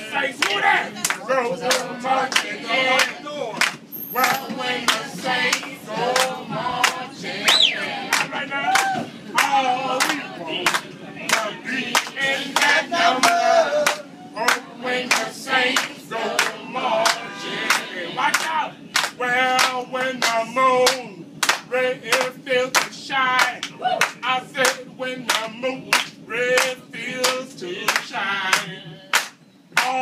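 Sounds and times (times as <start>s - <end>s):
group of people singing: 0.0s - 3.3s, 4.0s - 23.6s, 24.2s - 30.0s
rhythmic clapping: 0.4s - 30.0s.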